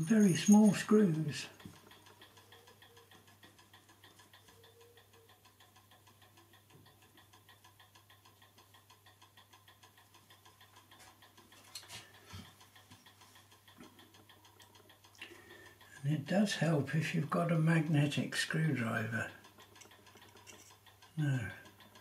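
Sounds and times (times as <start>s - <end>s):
clock ticking quickly: 0.0s - 22.0s.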